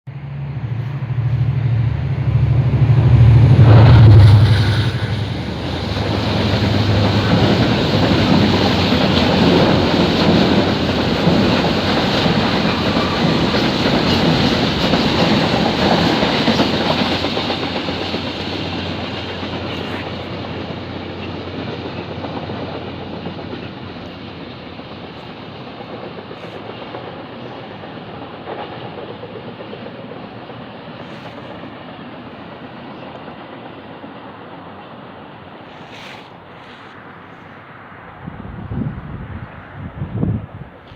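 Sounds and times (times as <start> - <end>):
diesel locomotive engine: 0.1 - 40.9
train wheels rattling on track: 0.2 - 40.9.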